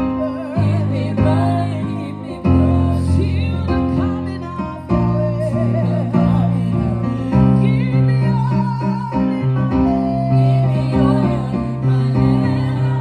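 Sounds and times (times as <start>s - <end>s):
keyboard chords: 0.0s - 13.0s
people singing: 0.0s - 13.0s
steady bass: 0.6s - 13.0s.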